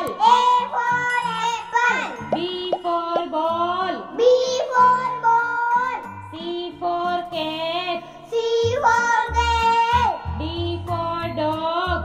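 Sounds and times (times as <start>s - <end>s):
high voice singing: 0.0s - 12.0s
synthesized backing with bass: 0.0s - 12.0s.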